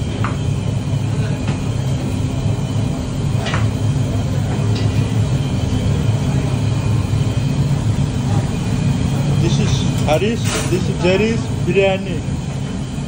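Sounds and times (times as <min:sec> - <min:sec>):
gas burners rumbling: 0:00.0 - 0:13.0.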